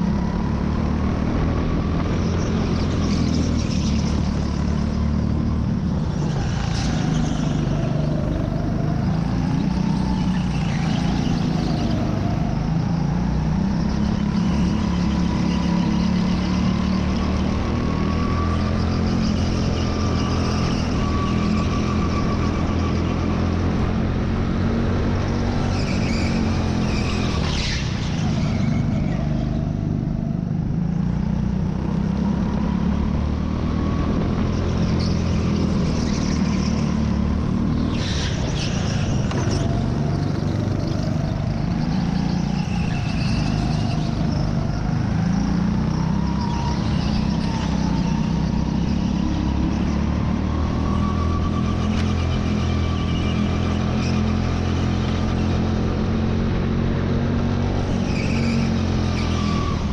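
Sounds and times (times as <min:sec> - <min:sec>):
go-kart engine at race pace: 0:00.0 - 0:59.9.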